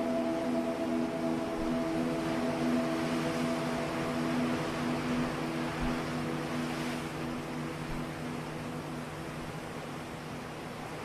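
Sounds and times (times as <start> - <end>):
ambient music drone: 0.0 - 11.0
ocean waves and surf: 0.0 - 11.0.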